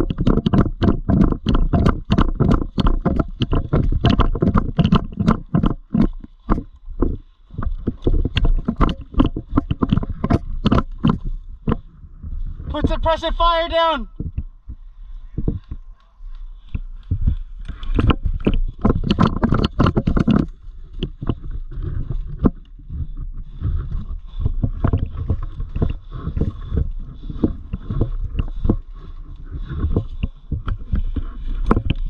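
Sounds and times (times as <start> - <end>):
low rumble and knocks: 0.0 - 13.2, 16.6 - 32.0.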